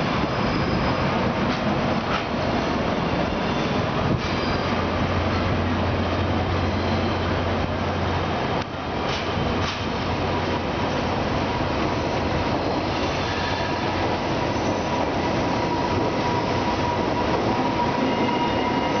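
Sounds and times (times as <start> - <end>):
train wheels rolling: 0.0 - 19.0.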